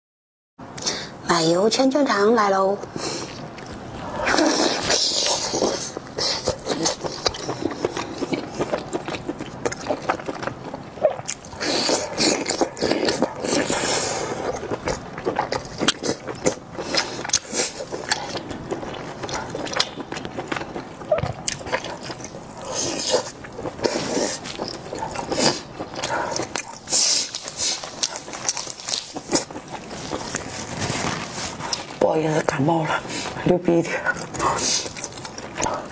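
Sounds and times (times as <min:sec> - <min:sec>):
wet chewing and mouth smacking: 0:03.2 - 0:35.9.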